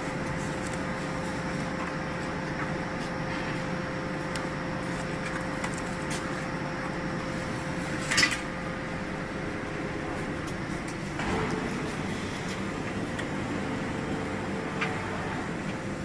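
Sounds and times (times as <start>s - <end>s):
baler motor humming: 0.0s - 16.0s.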